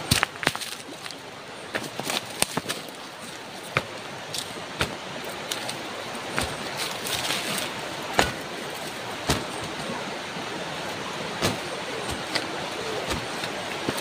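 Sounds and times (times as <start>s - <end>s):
stones clacking together: 0.0s - 9.9s, 11.4s - 14.0s
flowing water rushing: 0.0s - 14.0s.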